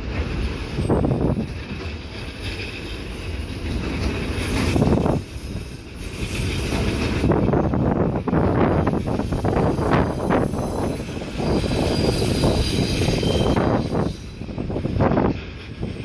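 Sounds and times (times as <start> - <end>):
wind buffeting microphone: 0.0 - 2.2, 3.3 - 16.0.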